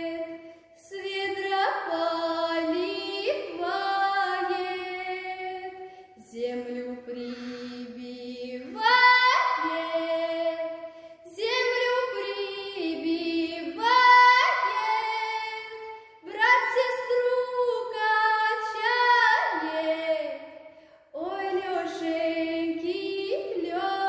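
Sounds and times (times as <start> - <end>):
girl singing folk song: 0.0 - 24.0.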